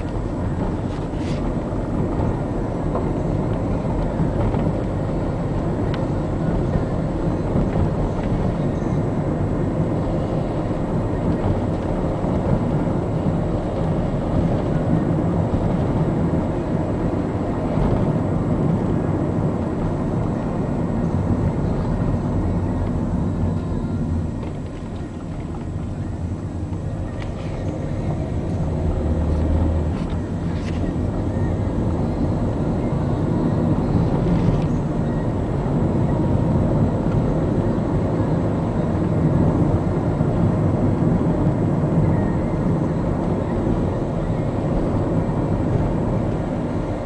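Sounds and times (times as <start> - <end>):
car engine and tyre rumble: 0.0 - 47.0.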